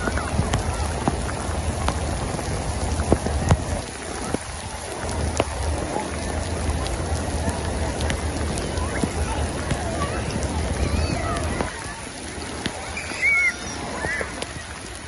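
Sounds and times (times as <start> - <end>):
rain falling: 0.0 - 15.0
raindrops hitting close by: 0.0 - 15.0.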